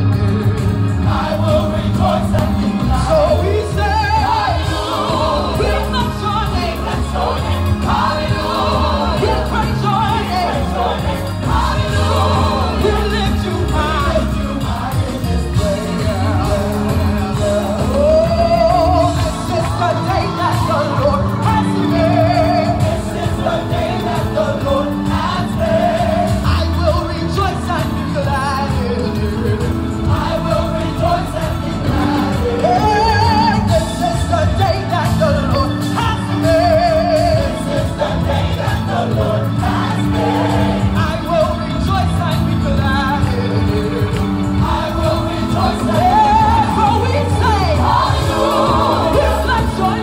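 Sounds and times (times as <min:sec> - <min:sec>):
band with stepping bass line: 0:00.0 - 0:50.0
group of singers: 0:00.0 - 0:50.0.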